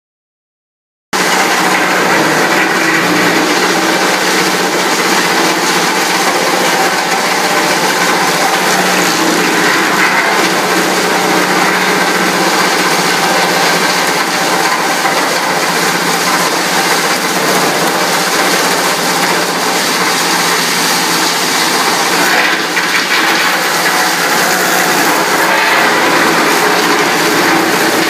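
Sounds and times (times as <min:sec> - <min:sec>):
rattling and crackling chips: 0:01.2 - 0:28.0
wood shredder chewing branches: 0:01.2 - 0:28.0.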